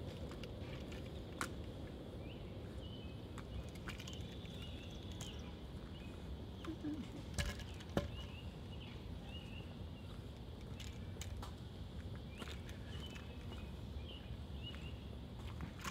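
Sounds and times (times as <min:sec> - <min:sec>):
outdoor background noise: 0:00.0 - 0:15.9
small birds chirping: 0:00.4 - 0:15.9.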